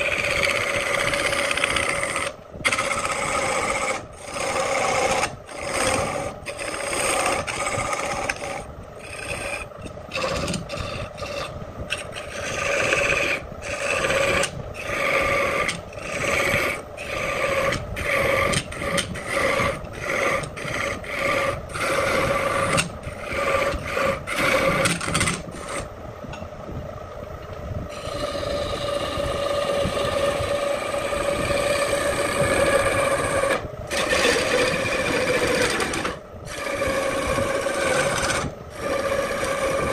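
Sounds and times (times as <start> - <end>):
turning tool scraping wood: 0.0 - 25.9, 27.9 - 39.9
lathe motor hum: 0.0 - 26.6, 27.2 - 39.9.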